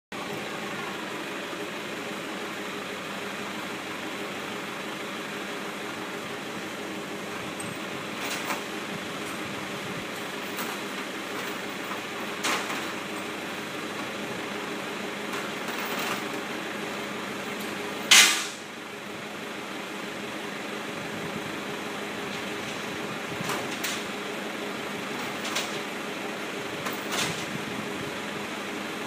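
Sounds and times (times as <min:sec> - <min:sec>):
tractor engine idling: 0:00.1 - 0:29.0.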